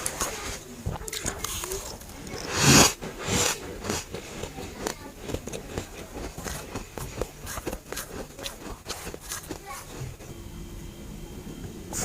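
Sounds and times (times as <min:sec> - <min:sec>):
frost being bitten and chewed: 0:00.0 - 0:10.2.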